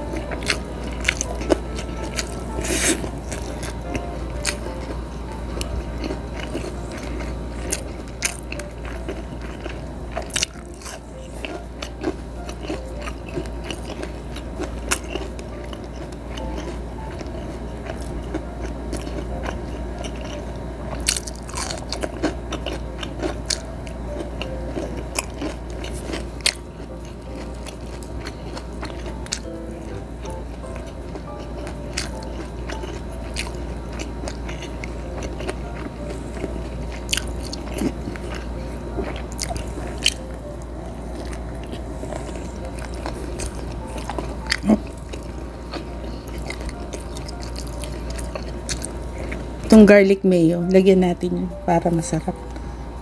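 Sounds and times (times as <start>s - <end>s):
chewing and crunching food: 0.0s - 50.8s.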